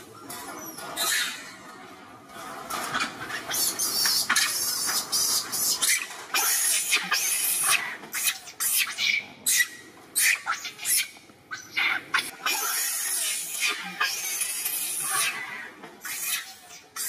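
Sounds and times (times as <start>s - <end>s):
baby monkey squealing: 3.0s - 16.8s.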